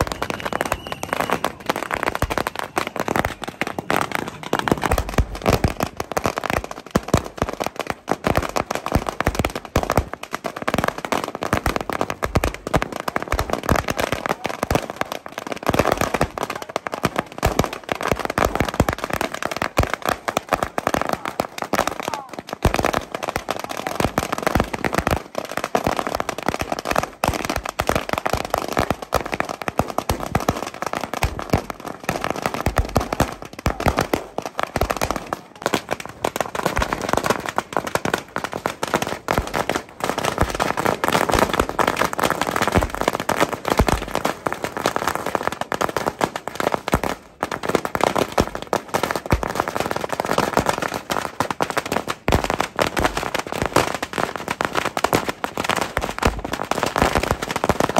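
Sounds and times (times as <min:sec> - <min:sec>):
firecrackers rattling: 0:00.0 - 0:57.9.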